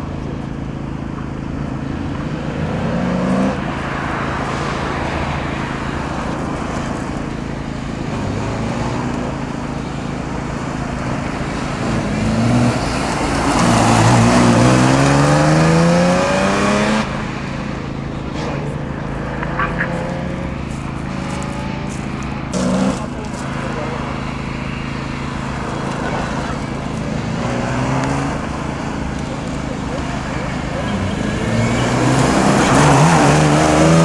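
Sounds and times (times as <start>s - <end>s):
car engine revving hard: 1.4s - 34.0s.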